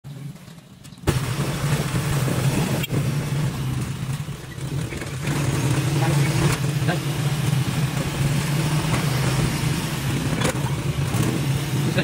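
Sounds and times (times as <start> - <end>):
road noise: 0.0 - 12.0
motorcycle engine running: 0.1 - 12.0.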